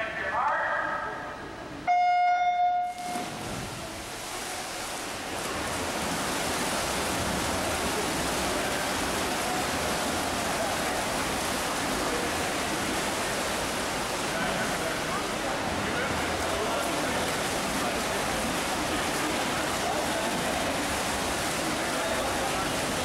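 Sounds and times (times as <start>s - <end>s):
swimmers splashing: 1.9s - 23.0s.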